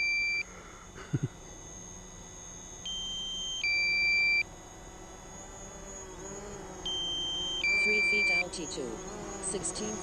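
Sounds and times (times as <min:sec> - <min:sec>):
low-battery warning beep: 0:00.0 - 0:04.5, 0:06.4 - 0:10.0.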